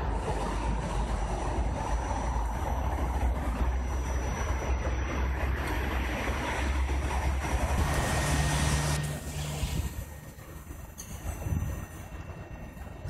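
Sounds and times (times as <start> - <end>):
electric train rumbling: 0.0 - 13.0
steady low hum: 0.0 - 13.0.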